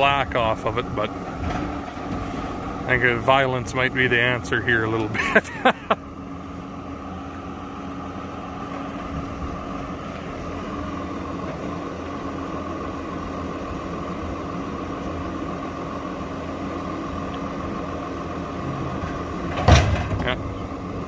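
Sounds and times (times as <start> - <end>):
steady whine: 0.0 - 21.0
tractor diesel engine running: 0.0 - 21.0.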